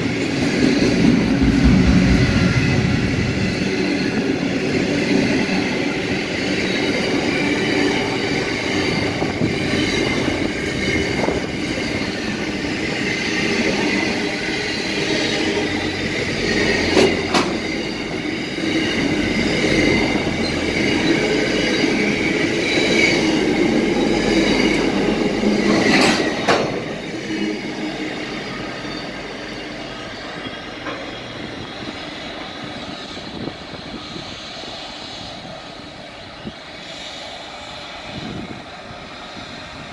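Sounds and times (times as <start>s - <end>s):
train wheels rumbling on rails: 0.0s - 39.9s
high wheel squeal: 5.8s - 38.5s.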